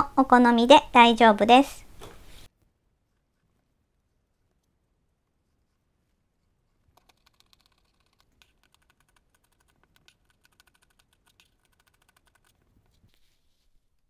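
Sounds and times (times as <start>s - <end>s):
faint clicking and scraping on fabric: 2.0s - 14.0s.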